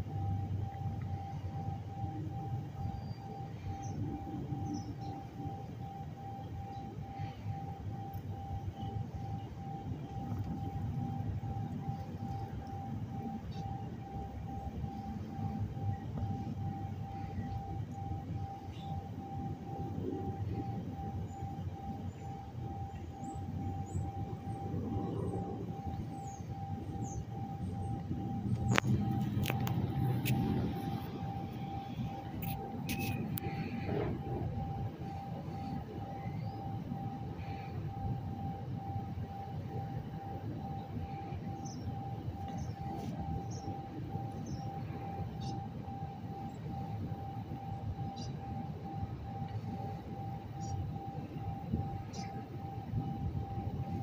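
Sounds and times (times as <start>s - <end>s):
electronic beeping tone: 0.0s - 54.0s
low outdoor rumble: 0.0s - 54.0s.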